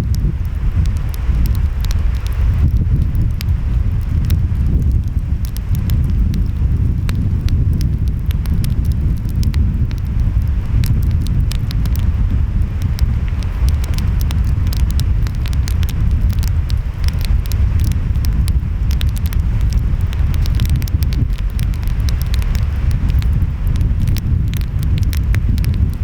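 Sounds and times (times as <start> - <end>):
wind: 0.0 - 26.0
wood fire crackling: 0.0 - 26.0.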